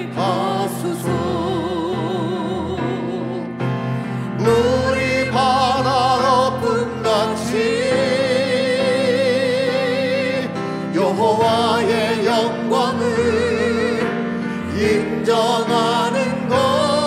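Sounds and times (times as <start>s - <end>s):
man and woman singing: 0.0s - 3.7s, 4.3s - 17.0s
grand piano: 0.0s - 17.0s.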